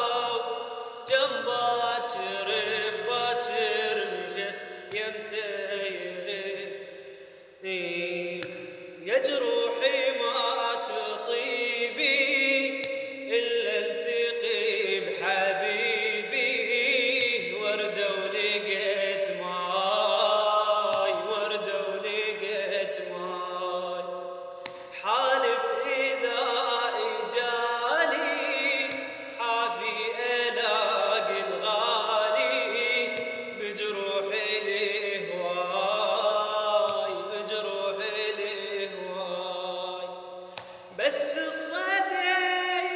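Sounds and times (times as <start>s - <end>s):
man singing chant-like melody: 0.0s - 6.9s, 7.6s - 42.9s.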